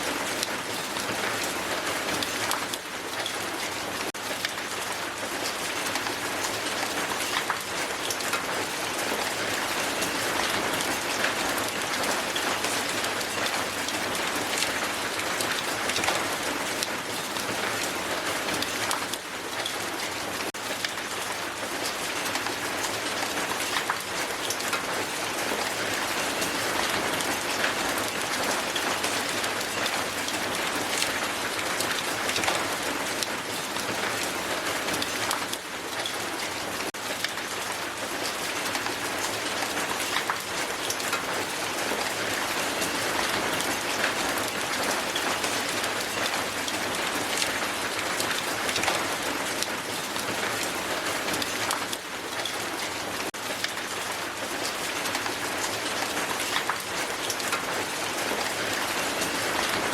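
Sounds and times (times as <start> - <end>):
hail falling on ground: 0.0 - 59.9.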